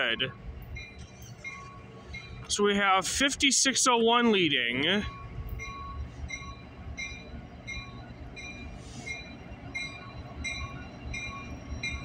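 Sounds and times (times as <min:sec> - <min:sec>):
high-pitched ringing squeals: 0:00.0 - 0:02.7, 0:04.6 - 0:12.0
freight train rumbling: 0:00.0 - 0:12.0.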